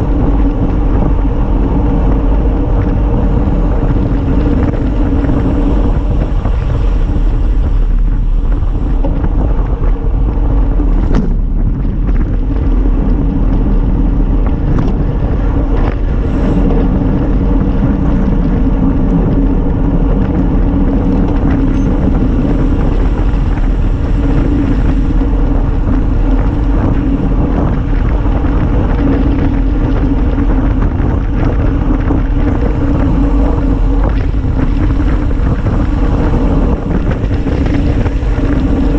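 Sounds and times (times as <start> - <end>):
tyres humming on asphalt: 0.0 - 38.9
wind rushing over microphone: 0.0 - 38.9.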